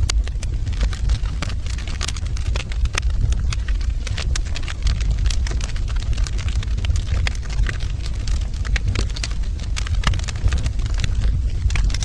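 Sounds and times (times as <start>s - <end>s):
fire crackling and popping: 0.0s - 12.0s
low rumble of flames: 0.0s - 12.0s.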